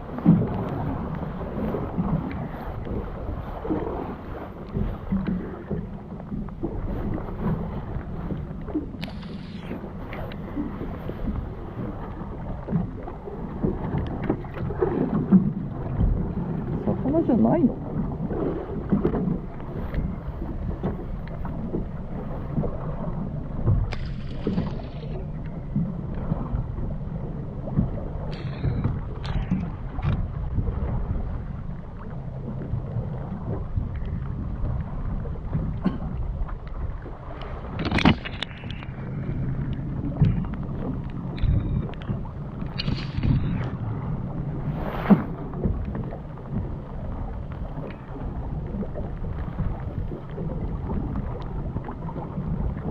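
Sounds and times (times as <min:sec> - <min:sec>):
boat engine running at low revs: 0:00.0 - 0:52.9
water noise: 0:00.0 - 0:52.9
wind: 0:00.0 - 0:52.9.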